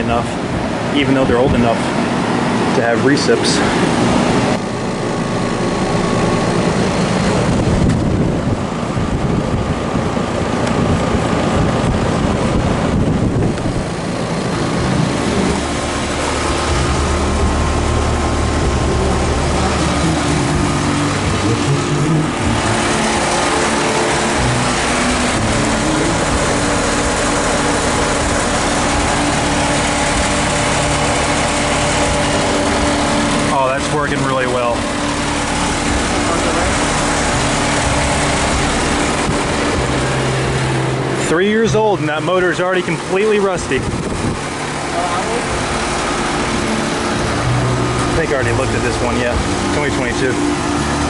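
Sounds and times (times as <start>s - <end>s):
compressor hum: 0.0s - 51.0s
condenser fans rushing: 0.0s - 51.0s.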